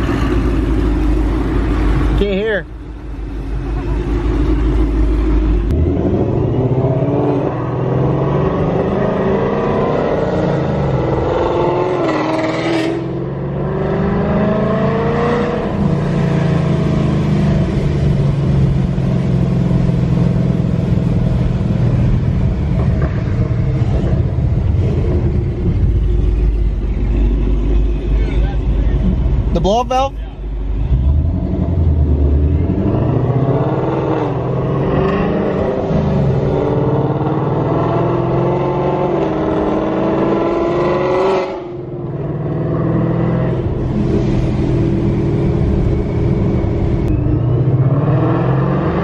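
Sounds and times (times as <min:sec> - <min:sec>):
car engine revving: 0:00.0 - 0:29.9, 0:30.8 - 0:49.0.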